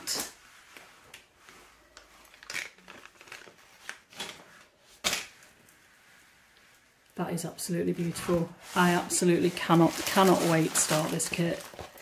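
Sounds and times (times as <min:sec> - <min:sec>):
packaging crinkling and rustling: 0:00.0 - 0:05.8, 0:08.1 - 0:12.0.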